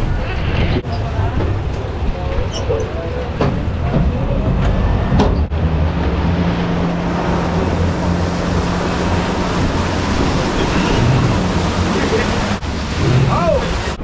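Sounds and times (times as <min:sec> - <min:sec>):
rushing wind: 0:00.0 - 0:14.0
water noise: 0:00.0 - 0:14.0
outboard motor drone: 0:00.8 - 0:14.0.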